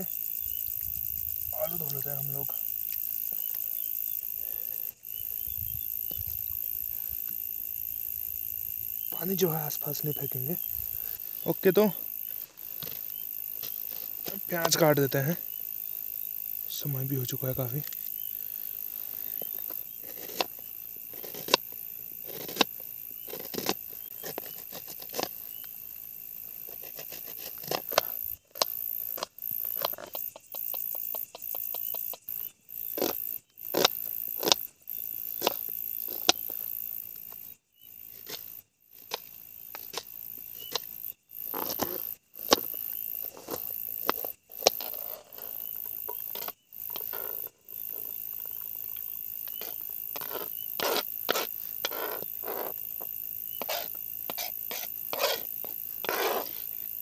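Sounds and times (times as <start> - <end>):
night insects chirring: 0.0 - 57.0.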